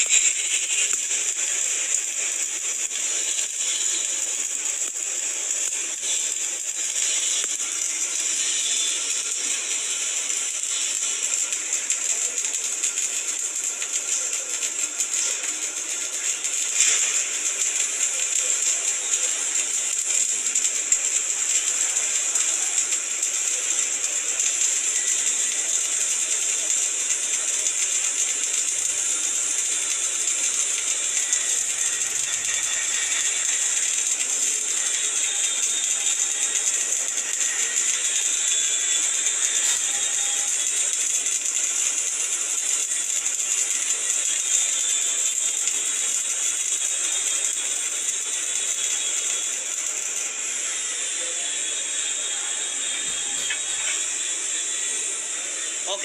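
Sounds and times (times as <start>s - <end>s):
welding arc crackling: 0.0s - 56.0s.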